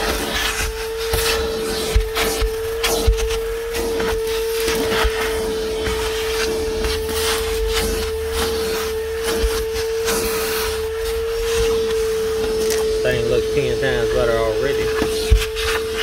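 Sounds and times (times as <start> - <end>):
shop vacuum whining: 0.0 - 16.0.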